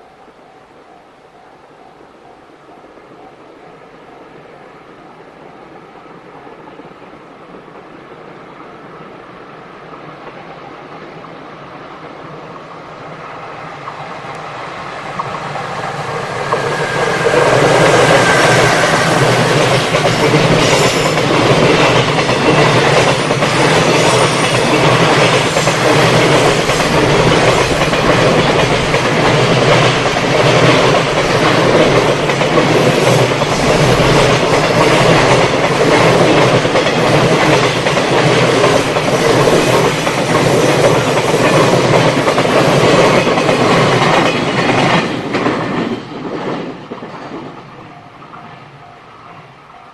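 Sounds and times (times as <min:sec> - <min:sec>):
freight train passing: 0:00.0 - 0:49.9.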